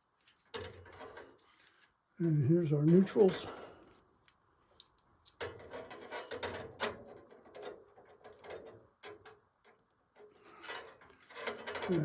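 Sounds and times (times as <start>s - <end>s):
electrical wires clicking and scraping: 0.1s - 2.0s, 2.7s - 12.0s.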